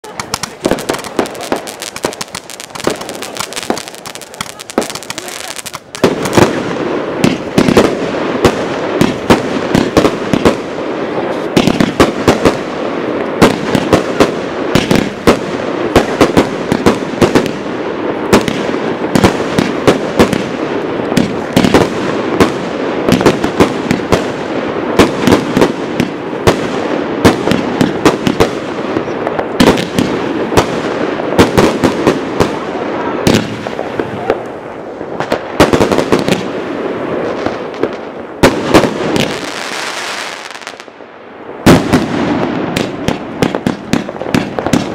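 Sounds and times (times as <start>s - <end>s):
firecrackers crackling: 0.0s - 44.9s
firework bangs: 0.0s - 44.9s.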